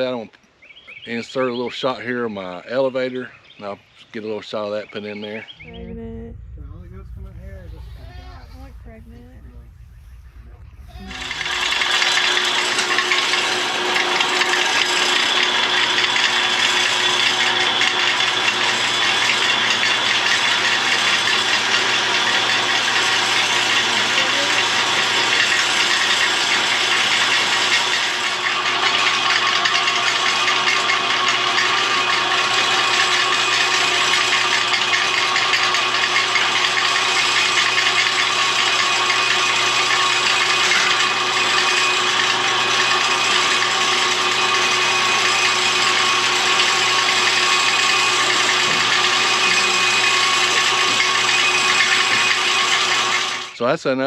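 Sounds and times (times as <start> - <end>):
bale elevator mechanical rattle: 6.0 - 53.6.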